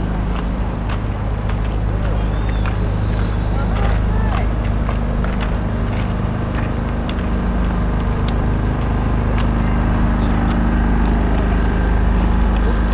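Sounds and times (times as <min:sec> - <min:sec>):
low rumble with hum: 0:00.0 - 0:12.9.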